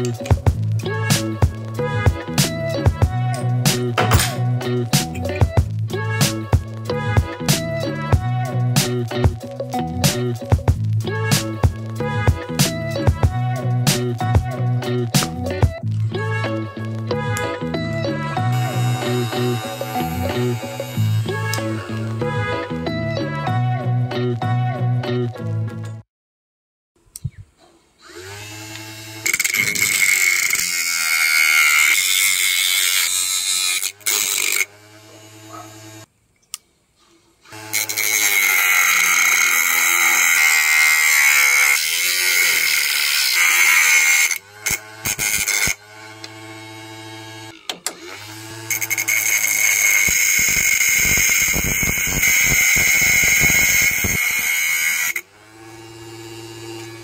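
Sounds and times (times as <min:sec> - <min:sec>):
angle grinder cutting: 0:00.0 - 0:08.1, 0:08.8 - 0:23.4, 0:28.0 - 0:36.1, 0:37.4 - 0:57.0.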